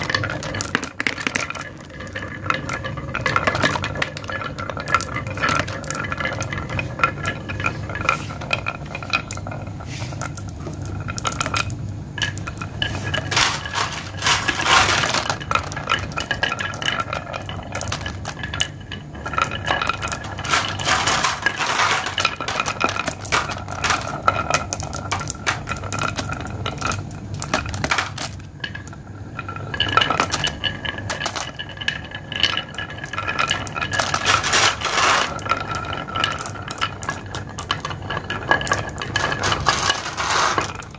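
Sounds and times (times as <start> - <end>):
glass marbles rolling and clinking: 0.0 - 40.9.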